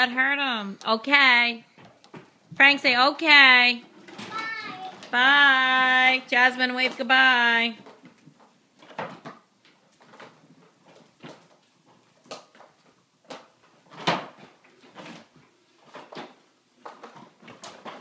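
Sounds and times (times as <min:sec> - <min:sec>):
plastic trike rolling on floor: 0:01.8 - 0:18.0.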